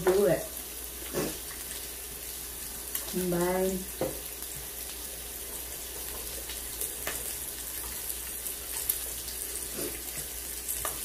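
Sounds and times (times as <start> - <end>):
meat sizzling on grill: 0.0 - 11.0.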